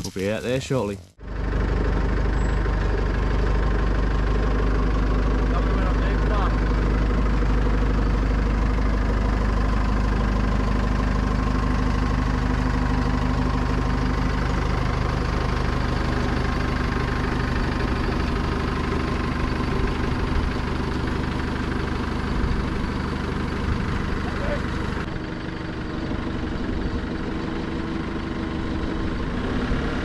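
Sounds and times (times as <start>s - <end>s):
engine idling: 0.4s - 30.0s.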